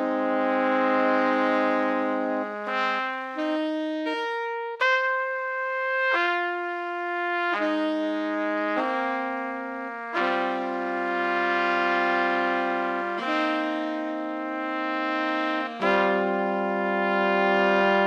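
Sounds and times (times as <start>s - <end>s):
slow held brass chords: 0.0s - 18.0s.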